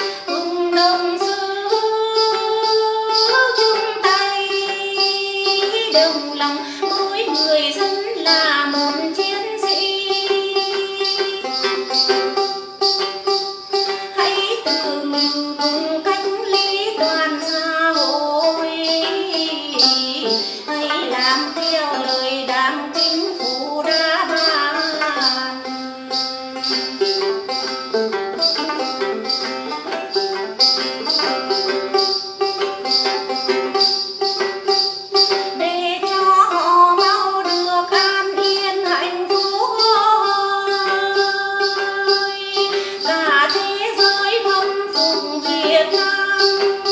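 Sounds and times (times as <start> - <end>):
woman singing: 0.0 - 27.4, 35.3 - 46.9
high jingling beat: 0.0 - 46.9
plucked lute: 0.0 - 46.9.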